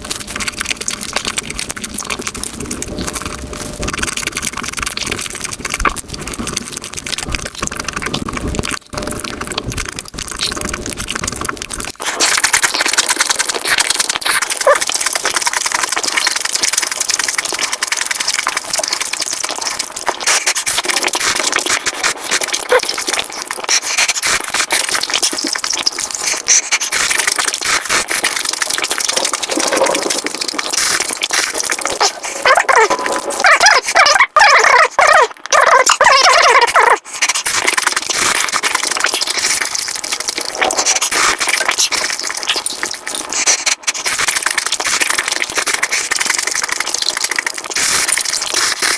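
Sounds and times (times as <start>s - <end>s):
sped-up chewing and crunching: 0.0s - 48.9s.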